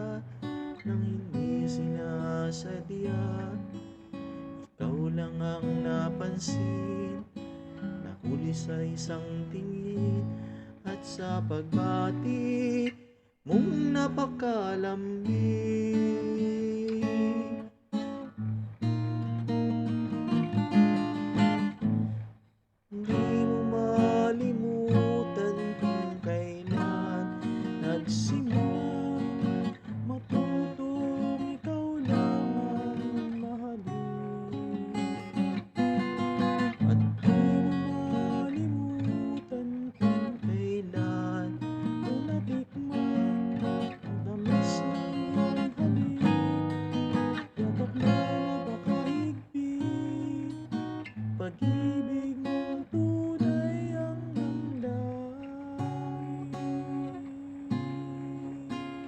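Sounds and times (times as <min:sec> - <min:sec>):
acoustic guitar strummed and picked: 0:00.0 - 0:59.0.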